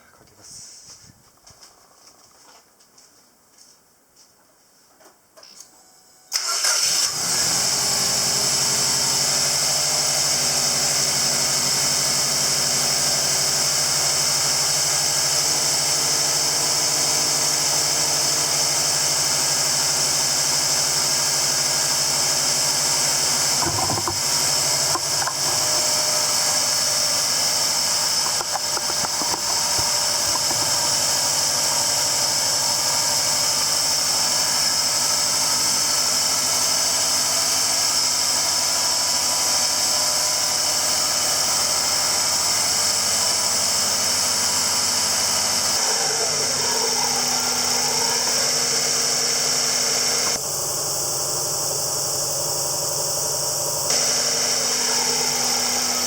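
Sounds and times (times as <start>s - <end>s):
car engine idling: 7.9s - 56.0s.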